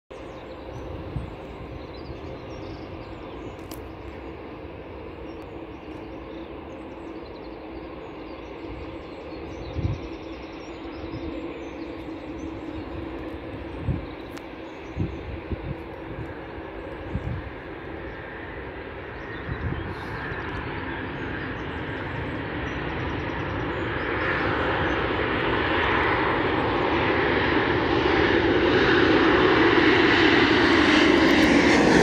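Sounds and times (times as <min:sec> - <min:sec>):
distant jet drone: 0:00.1 - 0:32.0.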